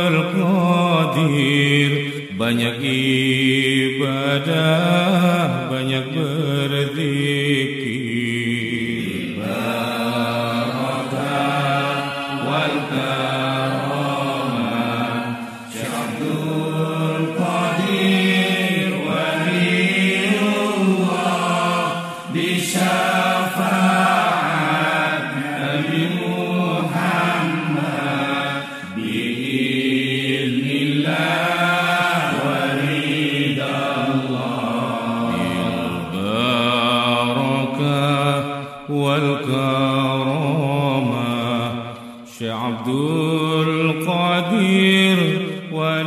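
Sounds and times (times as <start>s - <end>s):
person chanting devotional song: 0.0s - 46.0s.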